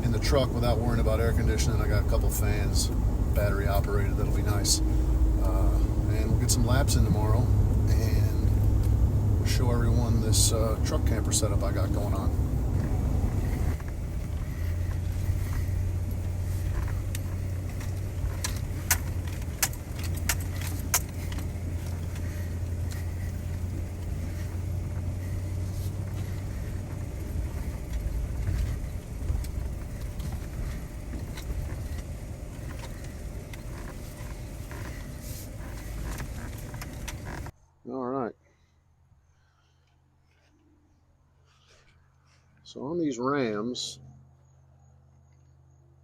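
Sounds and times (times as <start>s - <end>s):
sharp clicks and rattles: 0.0s - 37.6s
road and engine hum: 0.0s - 46.0s.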